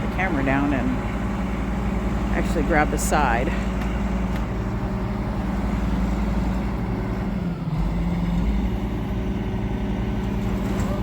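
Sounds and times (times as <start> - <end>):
crane diesel engine under load: 0.0 - 11.0.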